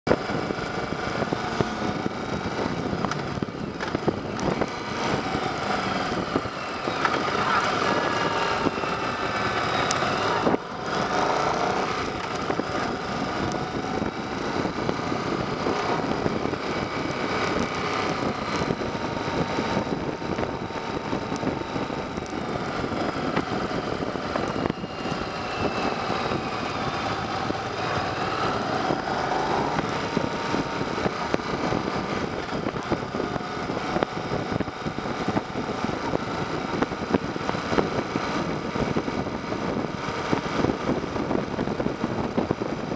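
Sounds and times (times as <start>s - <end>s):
wind and road noise: 0.0s - 42.9s
motorcycle engine revving: 0.1s - 42.9s.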